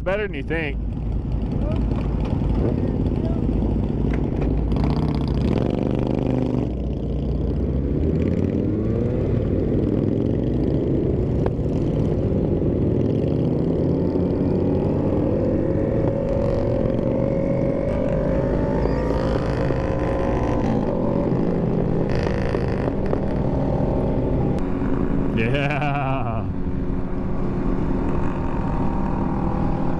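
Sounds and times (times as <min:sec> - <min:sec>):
motorcycle engine accelerating: 0:00.2 - 0:29.9.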